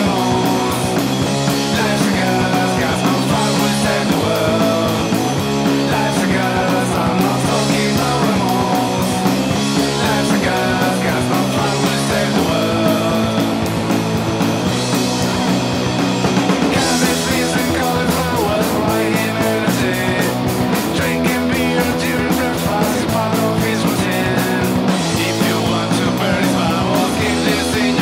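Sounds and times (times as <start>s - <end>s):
fast drum beat: 0.0s - 28.0s
punk rock band playing: 0.0s - 28.0s.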